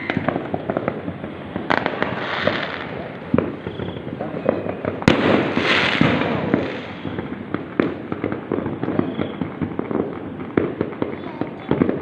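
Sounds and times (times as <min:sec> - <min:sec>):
fireworks crackling pops: 0:00.0 - 0:12.0
loud crackling hiss: 0:00.0 - 0:12.0.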